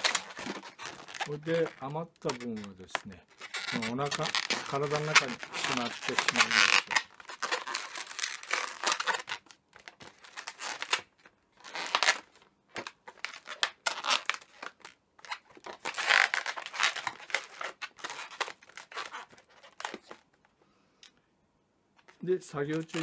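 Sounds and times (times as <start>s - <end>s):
balloons rubbing and squeaking: 0.0s - 20.3s, 22.0s - 23.0s.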